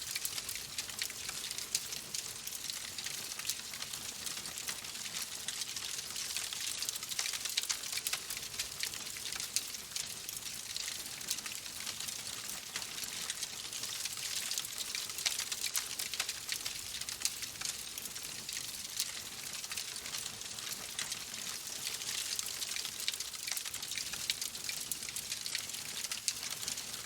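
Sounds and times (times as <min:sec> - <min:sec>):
fireplace fire crackling: 0:00.0 - 0:27.0.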